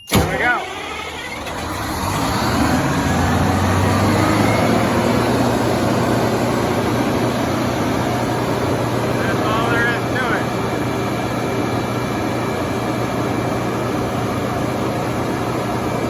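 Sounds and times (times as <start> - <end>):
diesel generator engine running: 0.0 - 16.0.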